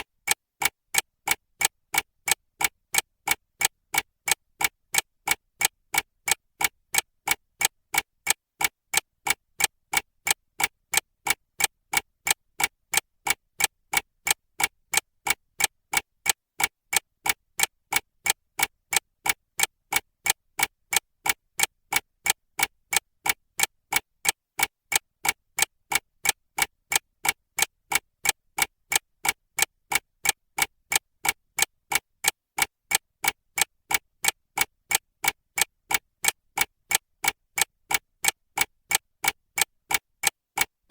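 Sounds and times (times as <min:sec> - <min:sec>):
clock ticking fast: 0:00.0 - 0:40.9.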